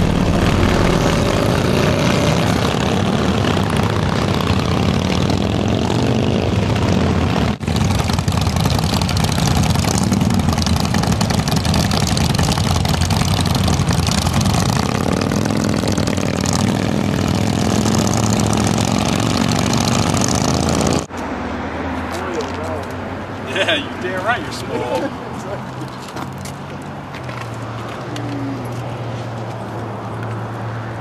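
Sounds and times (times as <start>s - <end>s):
motorcycle engines idling and revving: 0.0s - 31.0s.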